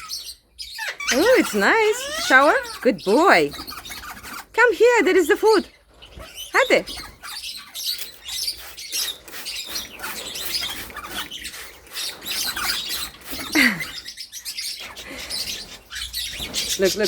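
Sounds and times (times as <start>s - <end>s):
parrots chirping: 0.0s - 17.0s.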